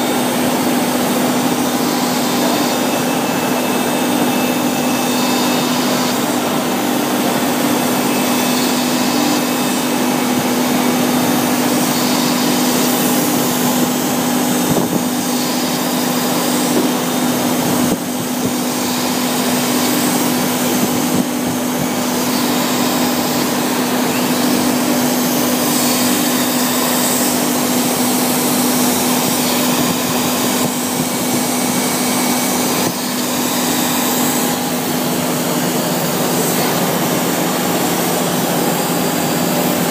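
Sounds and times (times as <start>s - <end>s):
router spindle milling metal: 0.0s - 39.9s.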